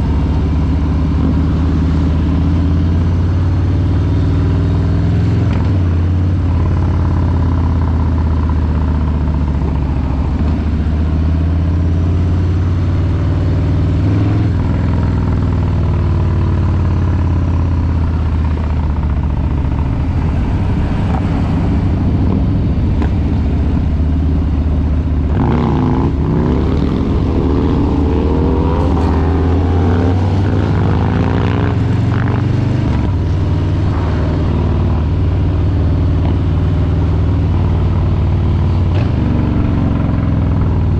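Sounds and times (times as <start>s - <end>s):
motorcycle exhaust rumble: 0.0s - 40.9s.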